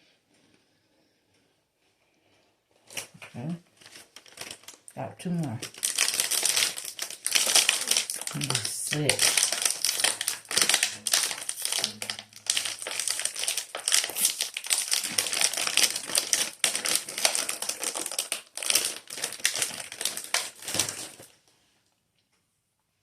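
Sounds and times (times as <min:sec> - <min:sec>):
wrapper crinkling: 0:02.8 - 0:21.4.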